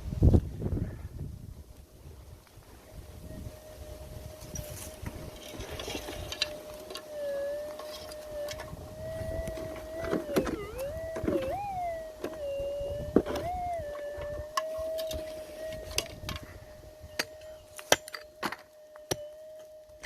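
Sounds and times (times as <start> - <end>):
metal detector threshold hum: 3.3 - 20.0.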